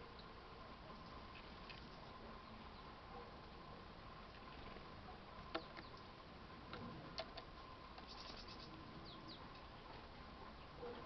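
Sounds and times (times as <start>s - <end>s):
songbirds calling: 0.0s - 11.0s.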